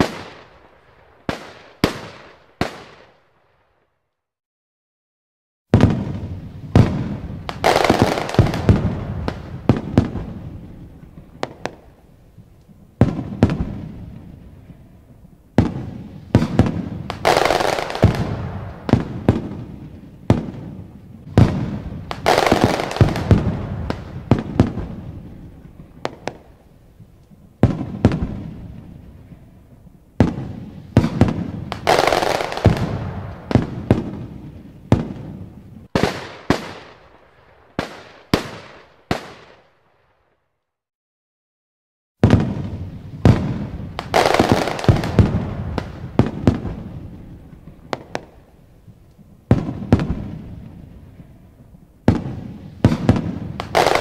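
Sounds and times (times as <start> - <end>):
fireworks booming: 0.0 - 3.2, 5.7 - 39.7, 42.2 - 54.0.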